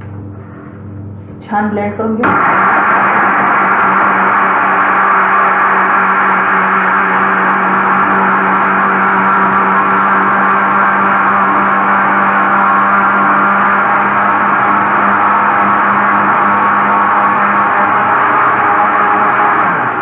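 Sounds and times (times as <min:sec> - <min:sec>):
mixer grinder motor whirring: 0:02.2 - 0:20.0.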